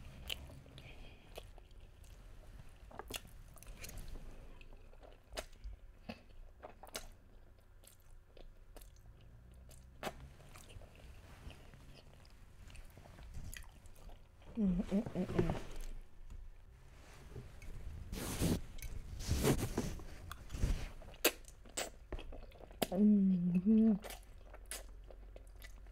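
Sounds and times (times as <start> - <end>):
person chewing: 0.1 - 2.2, 2.8 - 14.8, 17.6 - 25.9.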